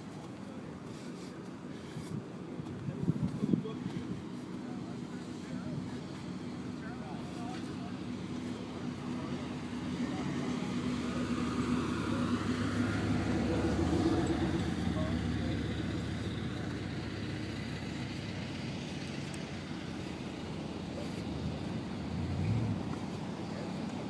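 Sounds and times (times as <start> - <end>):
car engine humming: 3.8 - 24.0.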